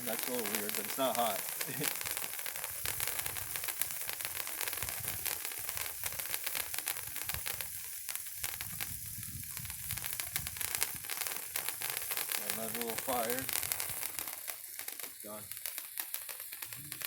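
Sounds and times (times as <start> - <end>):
sparkler crackling sizzle: 0.0 - 17.0.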